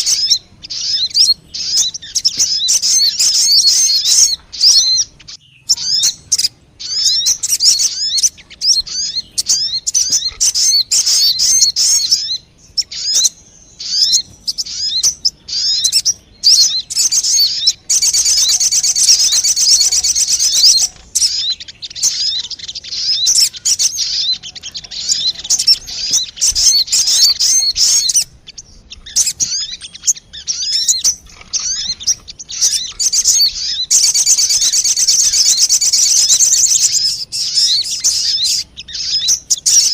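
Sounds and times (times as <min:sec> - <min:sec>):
bird twittering chirps and trills: 0:00.0 - 0:39.9.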